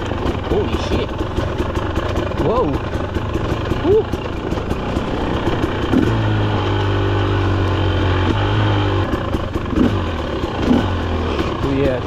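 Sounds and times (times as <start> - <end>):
two-stroke motorcycle engine: 0.0 - 12.0.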